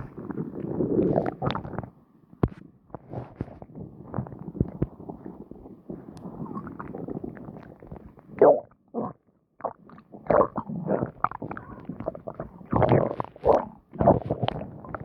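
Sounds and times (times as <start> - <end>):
stomach growling and gurgling: 0.0 - 15.0.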